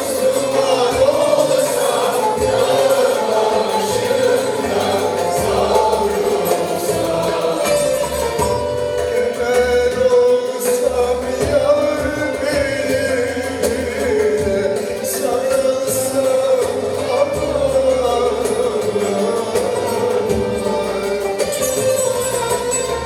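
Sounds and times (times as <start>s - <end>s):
folk singing: 0.0s - 23.0s
instrumental accompaniment: 0.0s - 23.0s.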